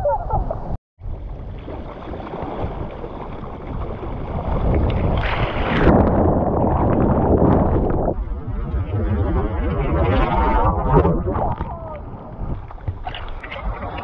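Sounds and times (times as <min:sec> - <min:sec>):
wind buffeting microphone: 0:00.0 - 0:14.0
surf churning and rushing: 0:00.2 - 0:14.0.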